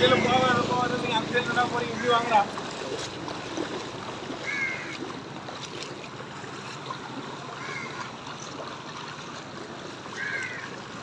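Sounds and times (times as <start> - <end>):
feet wading through water: 0.0 - 11.0.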